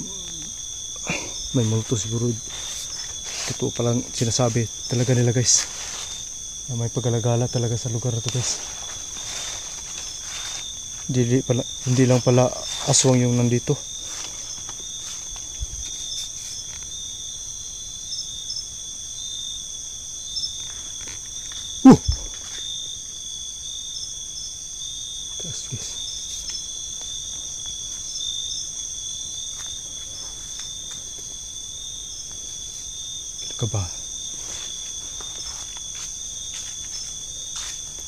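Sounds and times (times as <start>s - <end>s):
crickets and insects trilling: 0.0s - 38.0s.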